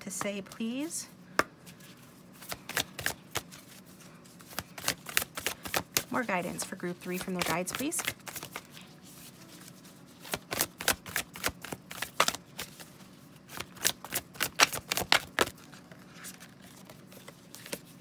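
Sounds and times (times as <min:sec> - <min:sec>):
playing cards being shuffled: 0:01.7 - 0:18.0.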